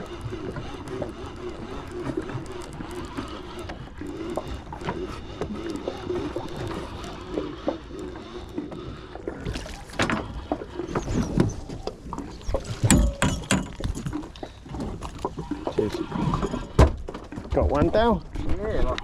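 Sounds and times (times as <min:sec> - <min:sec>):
boat engine low hum: 0:00.0 - 0:19.0
water noise: 0:00.0 - 0:19.0.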